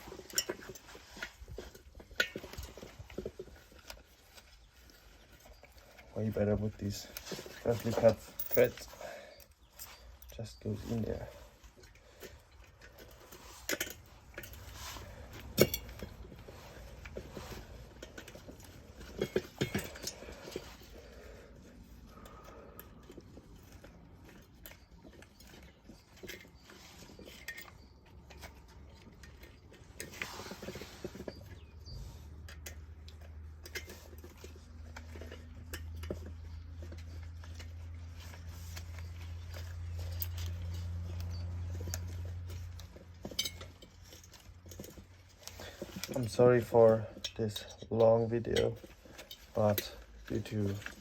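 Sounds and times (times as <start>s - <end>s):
low steady hum: 0.0s - 51.0s
metal parts clinking and knocking: 0.0s - 51.0s.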